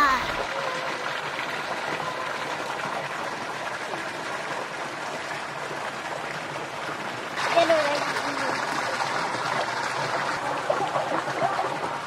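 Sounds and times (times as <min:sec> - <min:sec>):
water pouring into a pool: 0:00.0 - 0:12.0.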